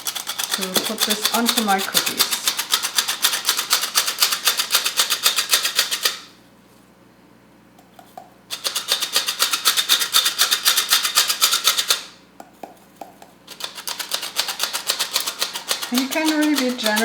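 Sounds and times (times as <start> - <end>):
sieve shaking with rhythmic rasping: 0.0 - 6.2, 8.5 - 12.1, 13.1 - 17.0.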